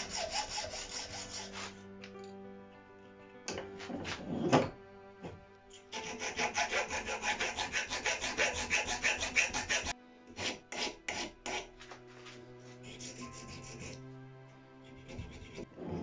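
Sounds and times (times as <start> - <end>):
metal file scraping aluminium: 0.0 - 1.8, 3.5 - 14.0, 14.8 - 16.0.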